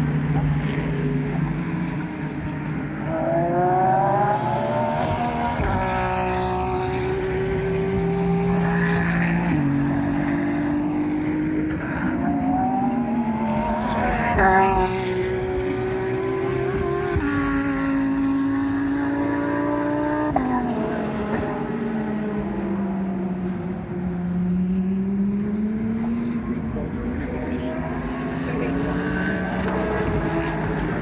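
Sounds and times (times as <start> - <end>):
race cars passing at speed: 0.0 - 31.0.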